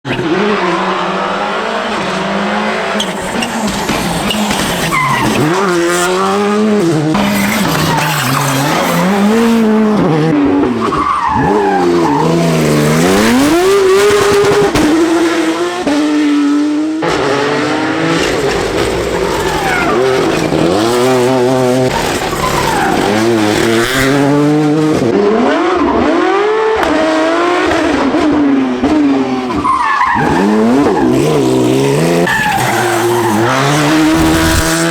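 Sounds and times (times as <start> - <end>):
rally car engines revving: 0.1 - 34.9.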